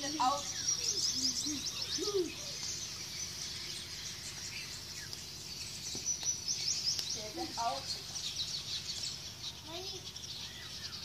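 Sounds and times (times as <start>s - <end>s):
birds twittering: 0.0s - 11.0s.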